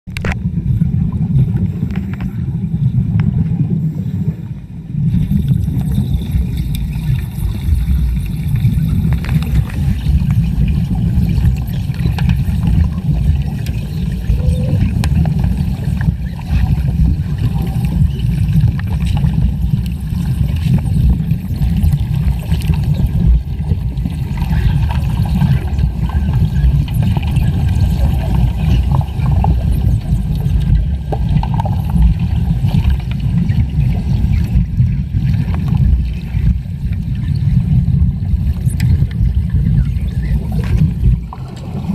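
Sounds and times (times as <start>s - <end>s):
underwater torch bubbling and crackling: 0.1s - 41.9s.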